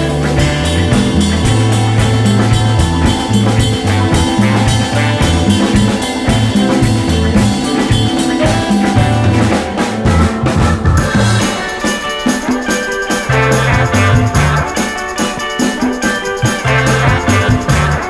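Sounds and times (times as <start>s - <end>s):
bass line: 0.0s - 11.8s, 13.2s - 14.9s, 16.4s - 18.0s
drum kit busy beat: 0.0s - 18.0s
guitar: 0.0s - 18.0s.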